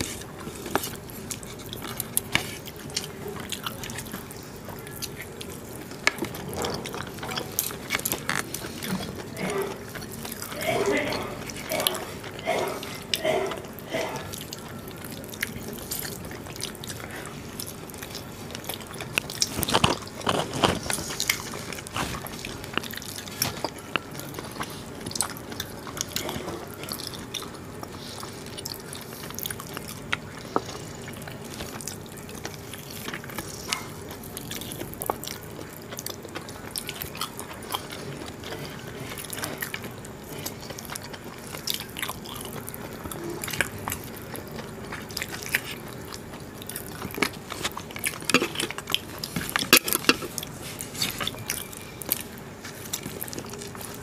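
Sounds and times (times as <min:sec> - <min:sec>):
mouth-close chewing: 0:00.0 - 0:54.0.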